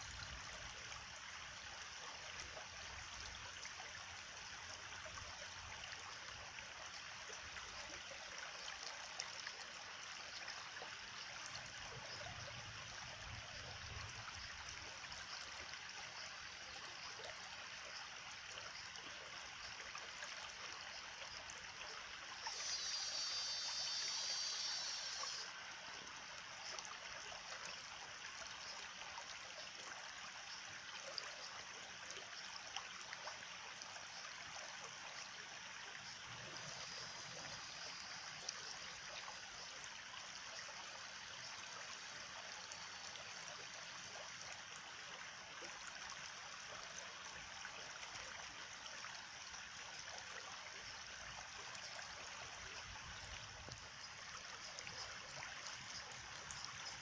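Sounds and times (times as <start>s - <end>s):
stream water over stones: 0.0s - 57.0s.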